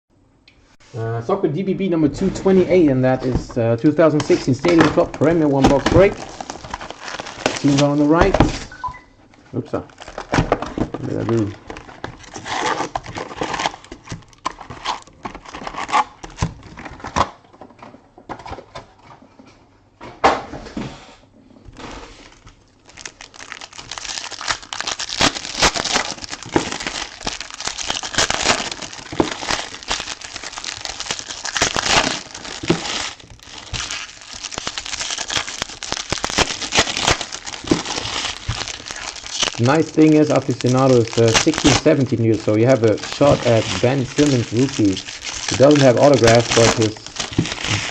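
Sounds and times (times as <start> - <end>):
plastic wrapping crinkling and tearing: 3.9 - 8.8, 9.8 - 17.4, 21.8 - 47.9.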